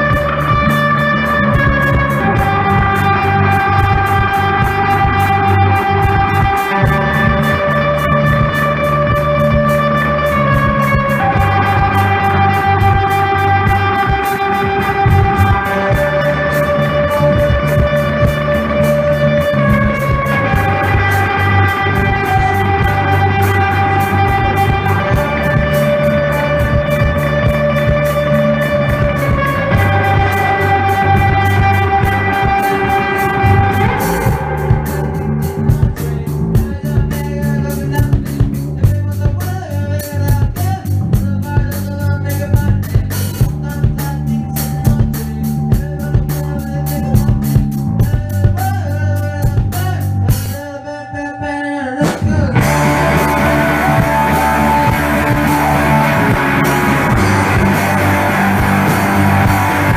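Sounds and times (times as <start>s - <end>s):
guitar-led rock music: 0.0s - 59.9s.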